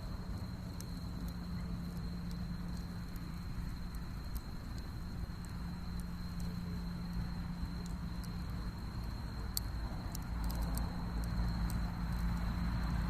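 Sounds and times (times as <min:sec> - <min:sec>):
faint ticks: 0:00.0 - 0:13.0
insects trilling: 0:00.0 - 0:13.0.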